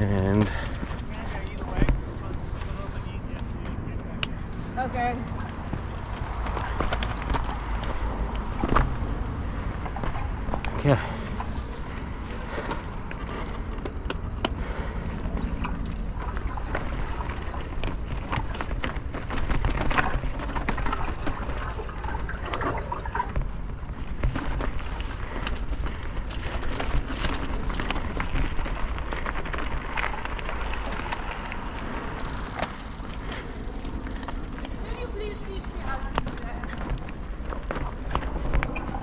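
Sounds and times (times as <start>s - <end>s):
bike tyres rolling over rock: 0.0s - 4.0s, 4.6s - 39.0s
bike chain and frame rattling: 0.0s - 39.0s.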